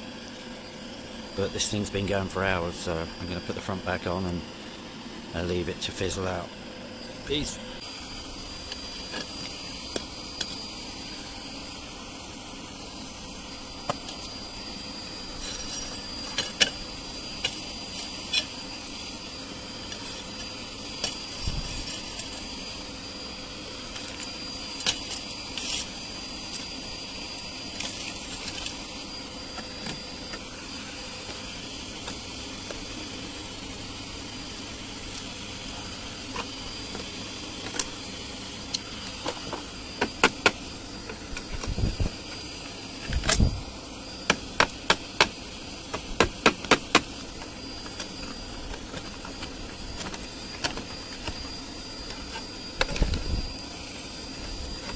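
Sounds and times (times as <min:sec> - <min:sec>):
thin high whine: 0:00.0 - 0:54.9.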